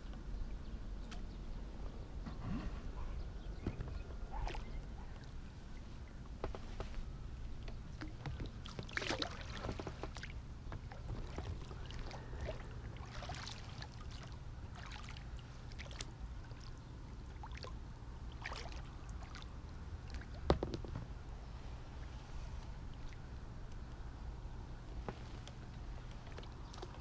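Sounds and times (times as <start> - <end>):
water lapping and splashing: 2.3 - 27.0.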